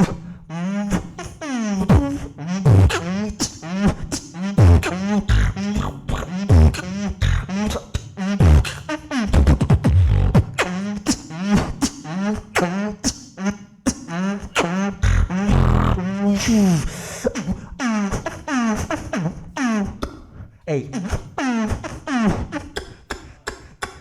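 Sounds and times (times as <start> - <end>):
beatboxing: 0.0 - 24.0.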